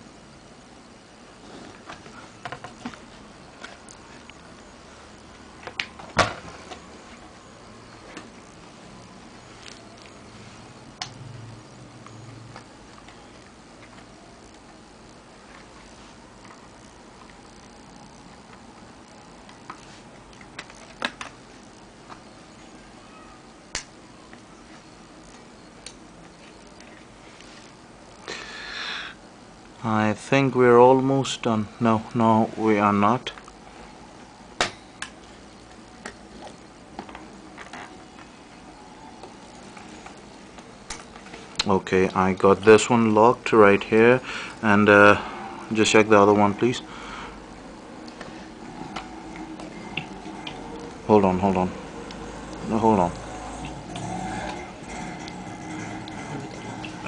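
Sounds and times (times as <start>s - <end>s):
faint room hiss: 0.0s - 57.0s.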